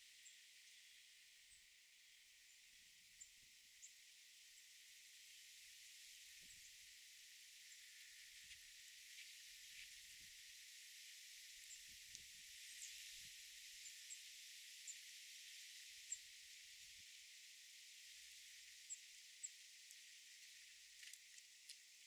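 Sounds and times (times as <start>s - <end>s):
high outdoor hiss: 0.0s - 22.0s.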